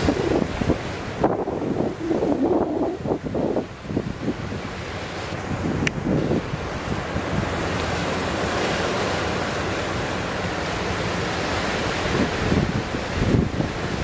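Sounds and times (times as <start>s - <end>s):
sea surf breaking: 0.0s - 14.0s
wind buffeting microphone: 0.0s - 14.0s.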